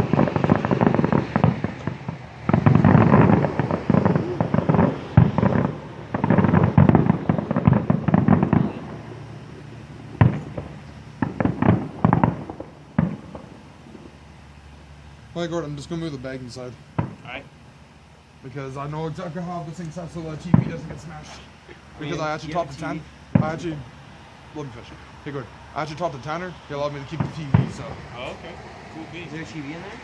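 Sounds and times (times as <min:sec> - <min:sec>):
sharp firework bangs: 0:00.0 - 0:14.6, 0:15.4 - 0:17.5, 0:18.8 - 0:30.0
fireworks crackling: 0:00.0 - 0:30.0.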